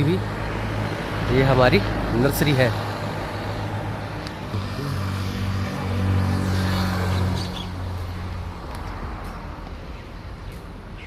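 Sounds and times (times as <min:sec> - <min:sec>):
traffic noise: 0:00.0 - 0:11.0
vehicle engine humming: 0:00.0 - 0:11.0.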